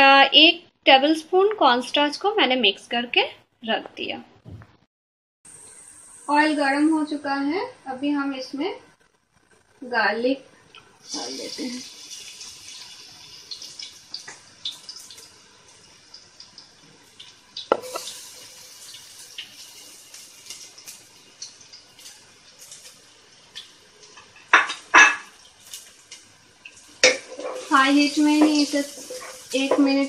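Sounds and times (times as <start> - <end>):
garlic sizzling in oil: 5.5 - 30.0.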